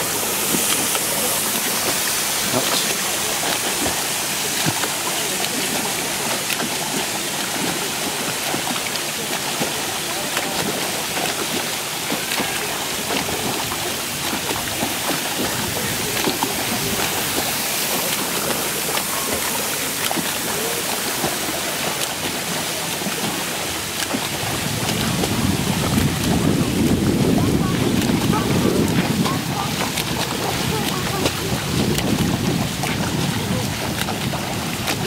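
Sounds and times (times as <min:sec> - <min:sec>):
swimmer splashing in pool: 0:00.0 - 0:35.0.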